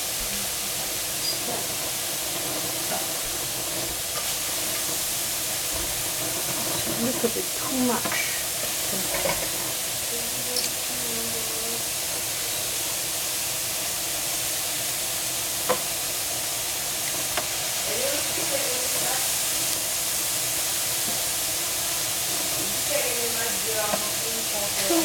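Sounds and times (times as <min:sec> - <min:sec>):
mushrooms sizzling in a frying pan: 0:00.0 - 0:25.0.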